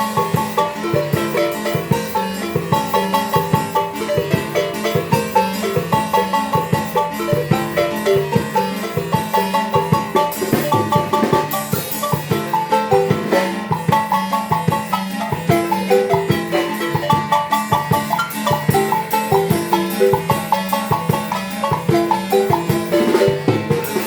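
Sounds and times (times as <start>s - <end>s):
drum beat: 0.0s - 24.0s
marimba playing lively tune: 0.0s - 24.0s.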